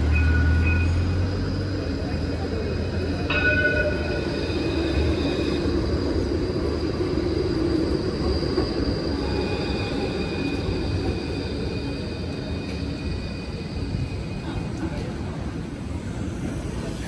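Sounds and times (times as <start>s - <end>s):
rail vehicle rumbling and whining: 0.0s - 17.0s.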